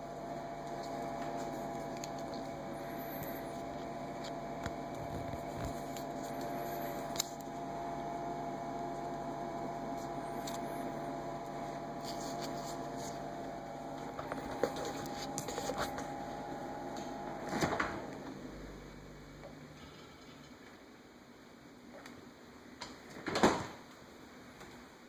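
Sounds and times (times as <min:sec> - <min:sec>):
refrigerator humming and whining: 0:00.0 - 0:25.0.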